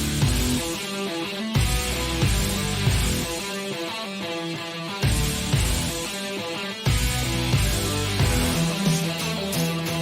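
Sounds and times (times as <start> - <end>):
steady bass line: 0.0 - 3.6, 4.5 - 10.0
guitar-led band music: 0.0 - 10.0.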